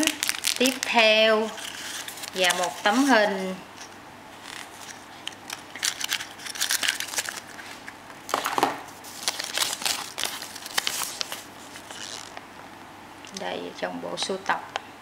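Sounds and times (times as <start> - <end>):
plastic wrapper crinkling: 0.0 - 12.4.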